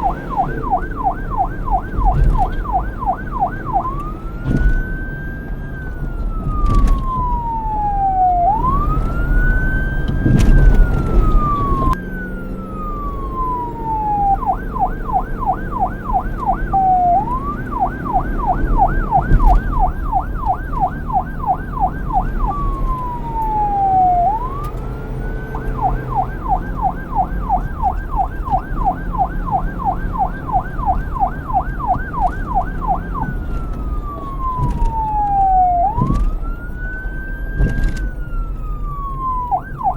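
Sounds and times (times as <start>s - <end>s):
police siren wailing and yelping: 0.0s - 39.9s.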